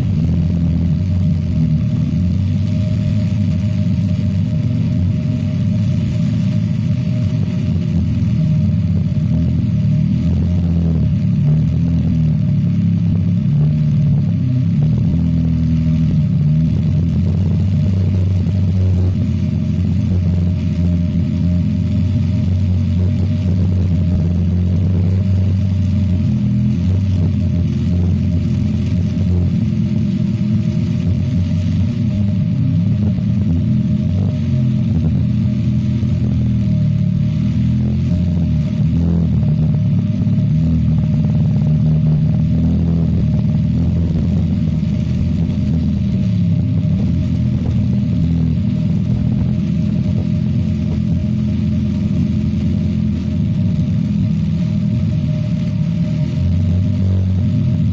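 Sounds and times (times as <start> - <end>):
generator engine running: 0.0 - 57.9.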